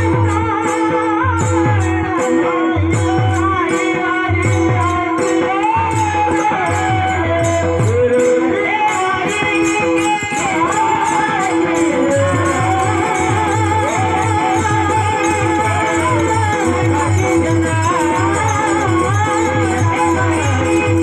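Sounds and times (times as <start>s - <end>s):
person singing melody: 0.0s - 21.0s.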